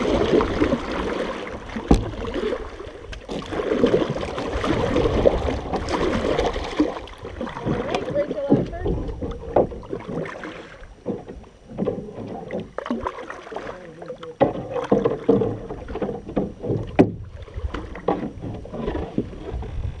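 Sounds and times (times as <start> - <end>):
paddles splashing in water: 0.0 - 20.0
water washing along hull: 0.0 - 20.0.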